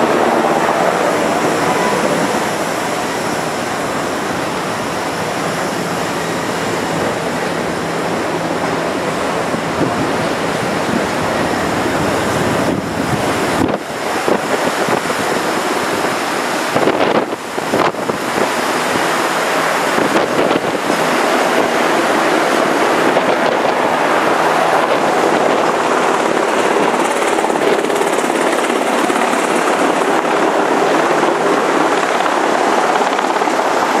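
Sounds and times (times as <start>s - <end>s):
churning seawater rushing: 0.0s - 34.0s.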